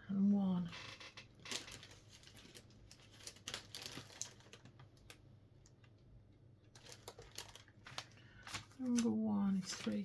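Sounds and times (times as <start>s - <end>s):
plastic bags clicking and crinkling: 0.7s - 6.0s, 6.7s - 10.0s.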